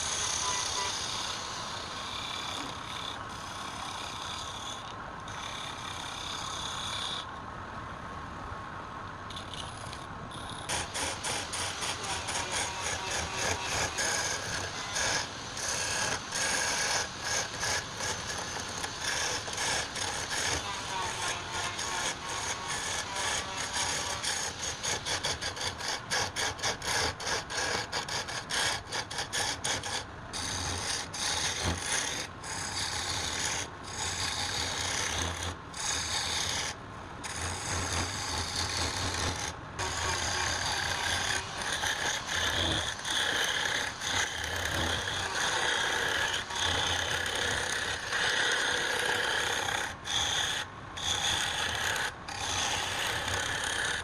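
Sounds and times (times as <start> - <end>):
rough tool scraping wood: 0.0 - 7.3, 9.3 - 54.0.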